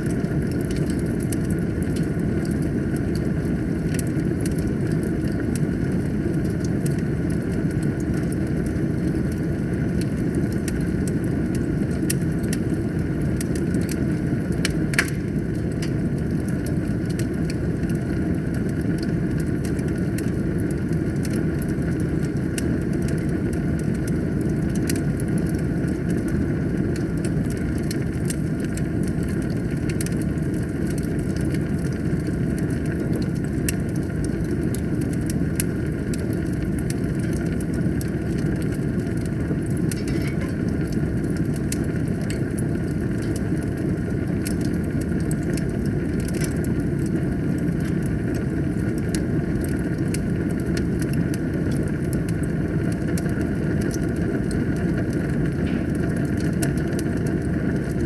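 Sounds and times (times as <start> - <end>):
fire crackles and pops: 0.0 - 58.0
wood fire roaring: 0.0 - 58.0.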